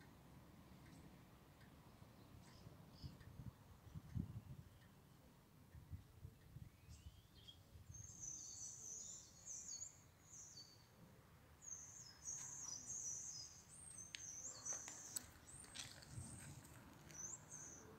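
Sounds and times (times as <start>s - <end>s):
small birds twittering: 0.7s - 17.9s.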